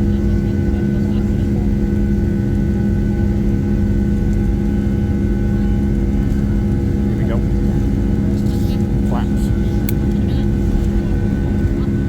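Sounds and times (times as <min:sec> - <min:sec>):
jet engines droning in cabin: 0:00.0 - 0:12.0.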